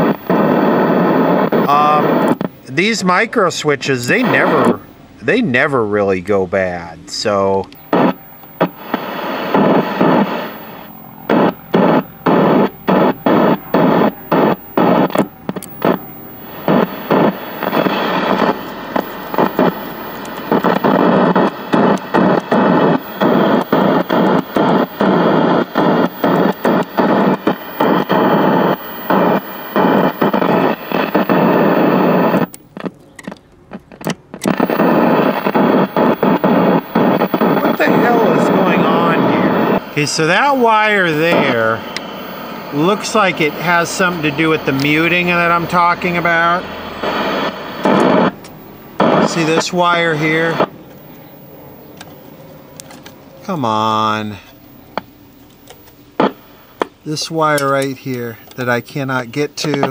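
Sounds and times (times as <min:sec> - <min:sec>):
television static hiss: 0:00.0 - 0:59.9.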